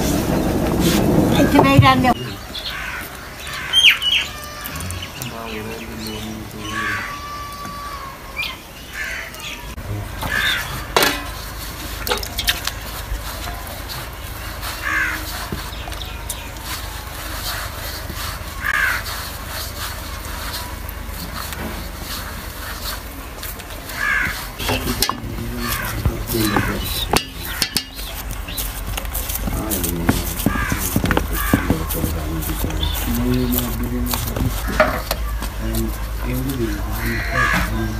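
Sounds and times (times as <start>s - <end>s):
crows cawing: 2.3s - 11.4s, 14.4s - 16.5s, 17.2s - 23.0s, 23.9s - 37.9s.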